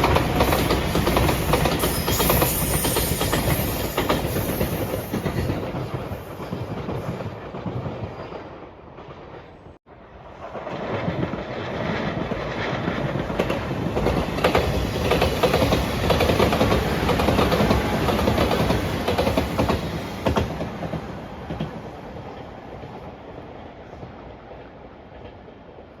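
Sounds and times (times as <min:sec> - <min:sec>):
train wheels clicking over rail joints: 0:00.0 - 0:09.5, 0:10.5 - 0:21.8.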